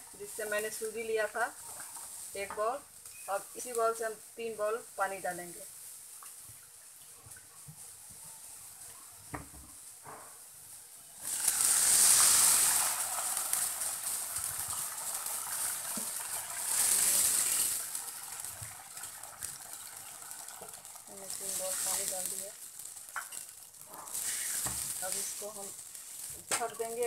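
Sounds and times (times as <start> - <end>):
water hissing in hot oil: 0.0 - 27.0.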